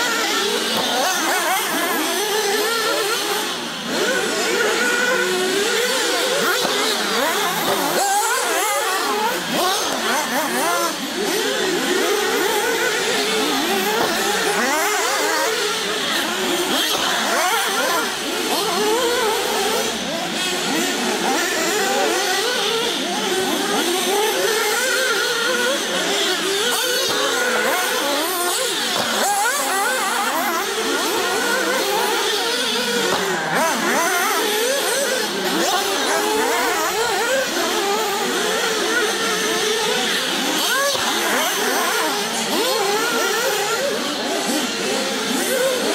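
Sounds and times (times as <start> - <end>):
rc car engines revving: 0.0 - 45.9.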